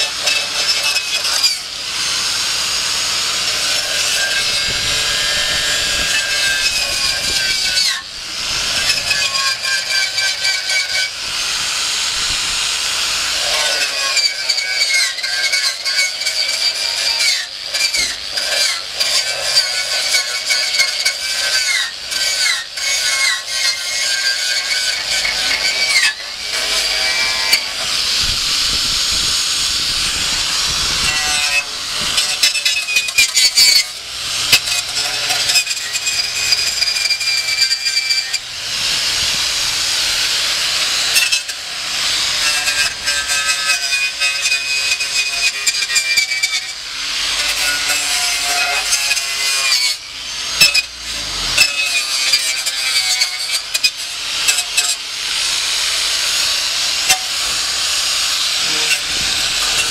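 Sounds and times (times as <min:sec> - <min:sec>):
hand tool rasping and scraping: 0:00.0 - 0:59.9.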